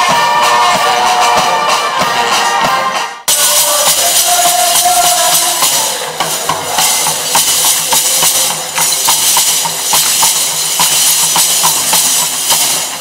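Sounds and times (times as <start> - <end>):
percussion dance music: 0.0 - 13.0.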